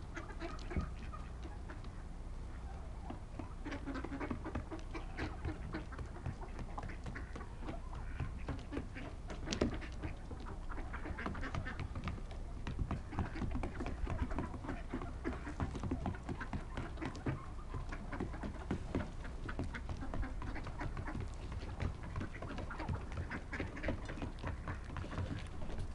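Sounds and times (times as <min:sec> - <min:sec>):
ducks quacking: 0:00.0 - 0:25.9
turkeys clucking: 0:00.0 - 0:25.9.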